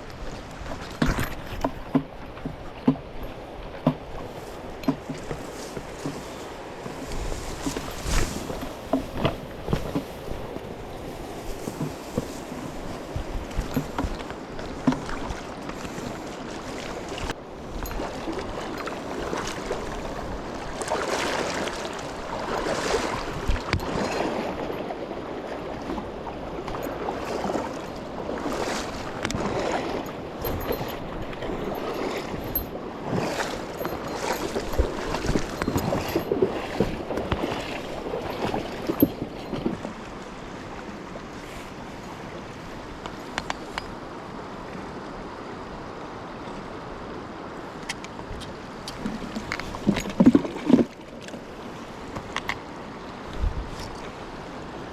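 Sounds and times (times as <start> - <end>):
river water rushing and splashing: 0.0 - 54.9.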